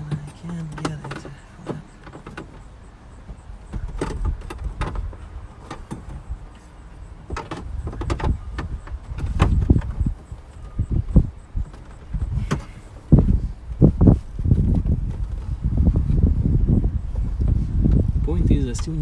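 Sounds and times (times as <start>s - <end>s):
dull low thumps: 3.1s - 19.0s.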